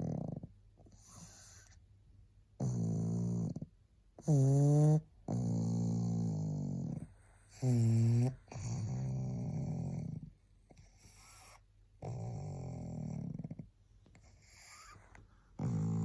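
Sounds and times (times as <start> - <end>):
dog snoring: 0.0 - 1.8, 2.6 - 16.0.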